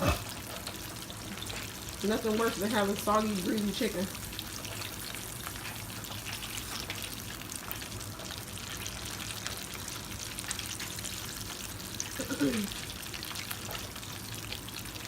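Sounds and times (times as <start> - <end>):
chicken frying in a pan: 0.0 - 15.0.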